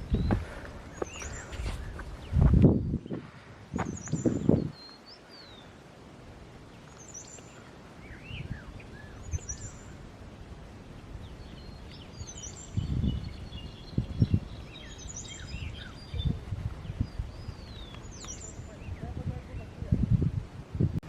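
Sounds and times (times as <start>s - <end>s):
birds twittering: 0.0s - 6.0s, 6.6s - 19.9s
outdoor hiss: 3.1s - 20.9s.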